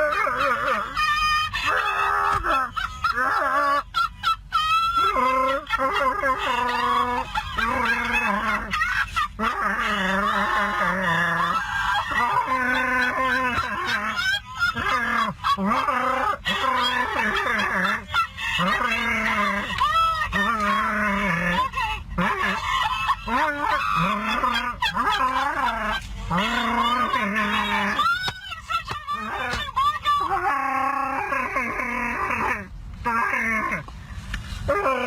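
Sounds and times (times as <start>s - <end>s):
woman shrieking laughter: 0.0s - 33.8s.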